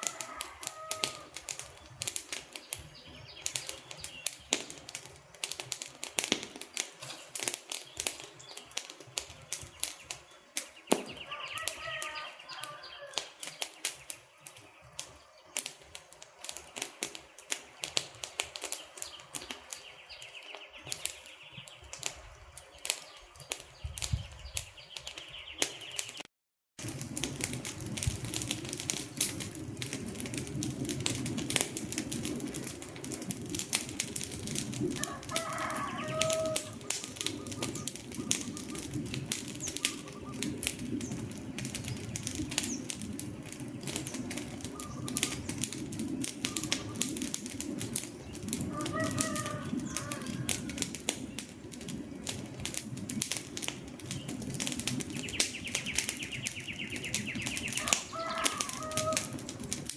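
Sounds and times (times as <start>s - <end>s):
low rushing of flames: 0.0s - 26.2s, 26.8s - 59.9s
wood fire crackling: 0.0s - 59.9s.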